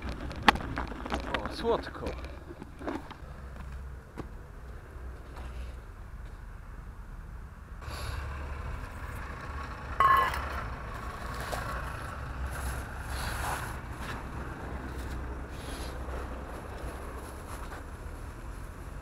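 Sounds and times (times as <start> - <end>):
low traffic engine rumble: 0.0 - 19.0.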